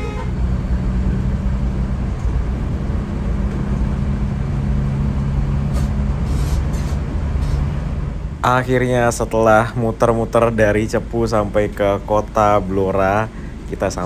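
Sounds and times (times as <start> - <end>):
diesel engine droning: 0.0 - 14.0
road rumble: 0.0 - 14.0.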